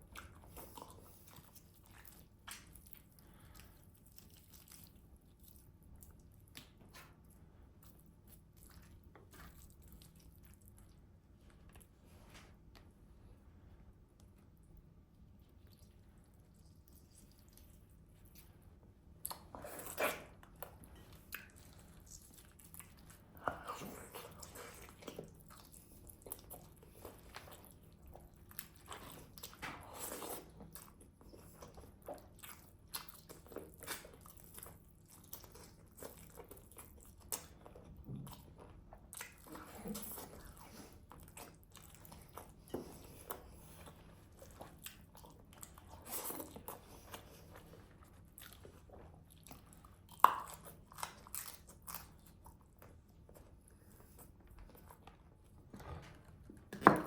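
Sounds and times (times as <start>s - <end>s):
person chewing food: 0.0s - 13.0s, 14.1s - 57.0s.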